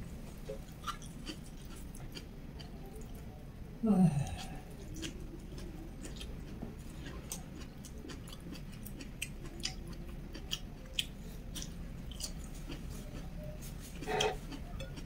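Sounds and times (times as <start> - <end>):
chewing greens: 0.4 - 15.0.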